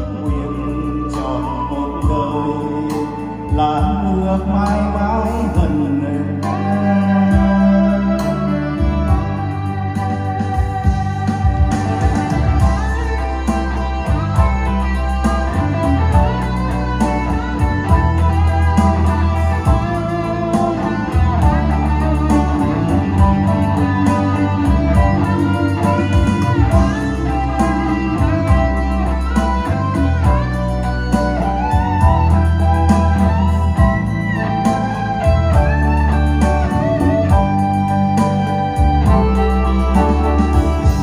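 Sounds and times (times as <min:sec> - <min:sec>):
heavy bass line: 0:00.0 - 0:41.0
lead guitar melody: 0:00.0 - 0:41.0.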